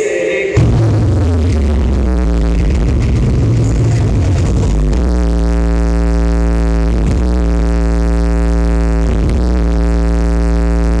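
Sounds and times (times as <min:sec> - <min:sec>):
loud low bass tone: 0:00.6 - 0:11.0.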